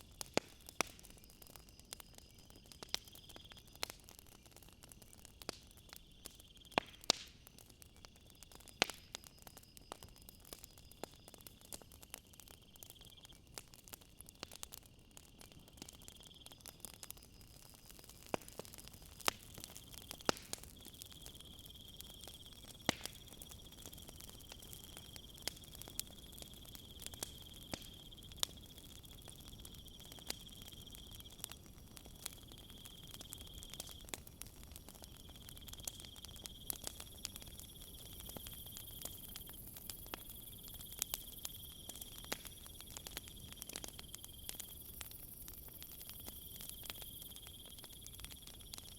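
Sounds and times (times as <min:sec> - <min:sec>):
wood fire crackling: 0:00.0 - 0:48.9
insect trill: 0:07.5 - 0:13.6, 0:15.0 - 0:48.9.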